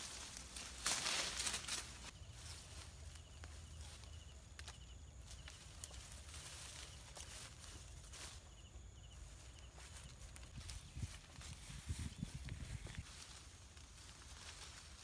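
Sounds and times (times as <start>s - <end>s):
rustling in brush: 0.0s - 4.2s, 5.2s - 15.0s.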